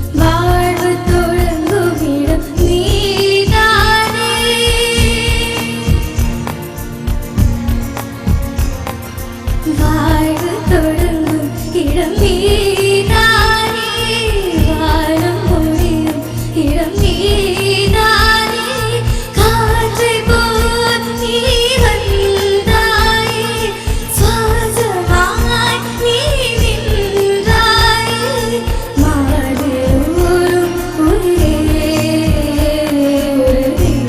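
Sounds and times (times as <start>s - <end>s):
girl singing: 0.0s - 6.1s, 9.7s - 34.0s
steady drum beat: 0.0s - 34.0s.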